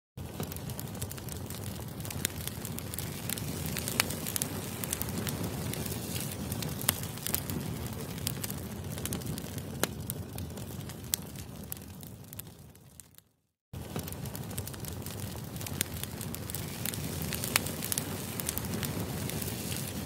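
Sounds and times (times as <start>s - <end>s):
rush of flame: 0.2s - 13.1s, 13.8s - 20.0s
wood fire crackling and popping: 0.2s - 20.0s.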